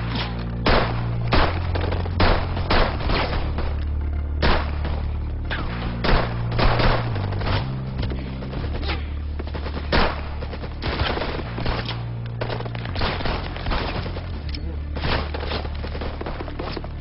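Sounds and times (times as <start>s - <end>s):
gunshots: 0.0s - 17.0s
low droning music score: 0.0s - 17.0s.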